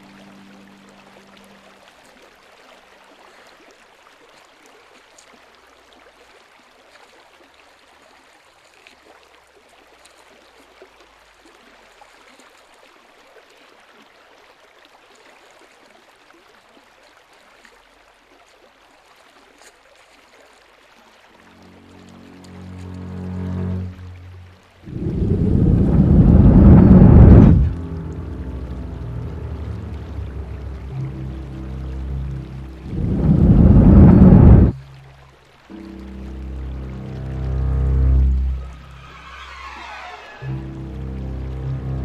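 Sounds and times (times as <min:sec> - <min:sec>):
stream water running: 0:00.0 - 0:42.0.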